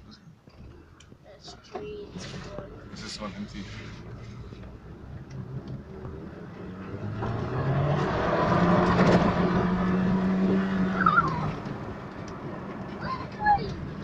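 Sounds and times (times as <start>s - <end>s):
car engine accelerating: 2.4s - 14.0s.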